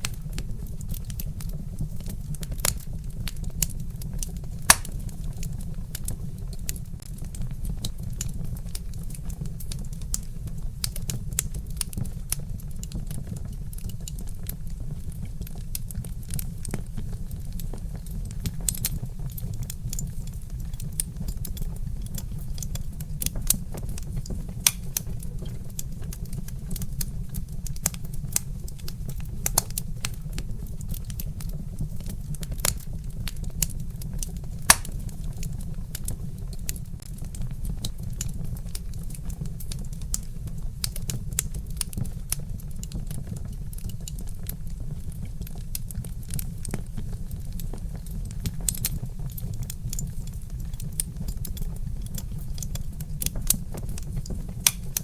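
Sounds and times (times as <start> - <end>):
log fire crackling and popping: 0.0 - 55.0
low fire rumble: 0.0 - 55.0.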